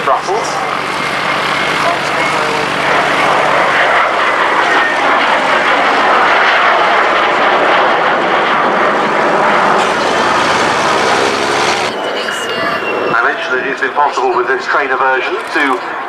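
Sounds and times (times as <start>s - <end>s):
jet aircraft passing: 0.0s - 16.0s.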